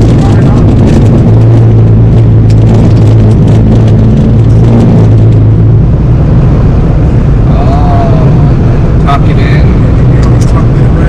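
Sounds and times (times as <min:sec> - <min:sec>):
low drone: 0:00.0 - 0:11.0
wind and road noise in car: 0:00.0 - 0:11.0.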